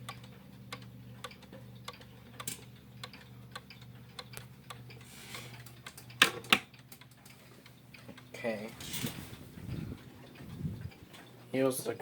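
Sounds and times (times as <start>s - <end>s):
wall clock ticking: 0.0s - 8.7s, 9.6s - 12.0s
steady low hum: 0.0s - 12.0s.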